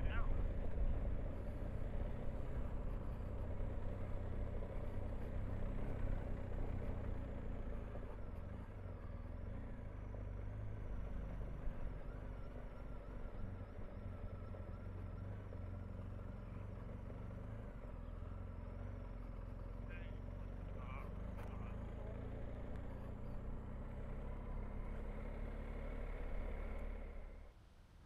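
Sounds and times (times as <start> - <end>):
motorcycle engine running: 0.0 - 27.5.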